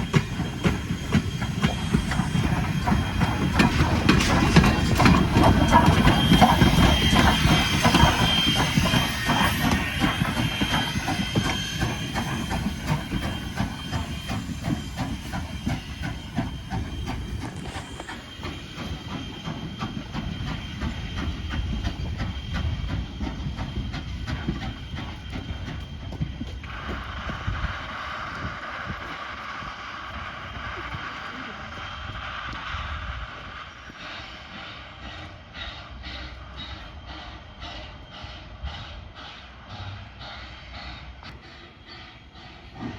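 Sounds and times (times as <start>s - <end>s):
train hiss: 0.0s - 42.9s
train wheels clicking over rails: 0.0s - 42.9s.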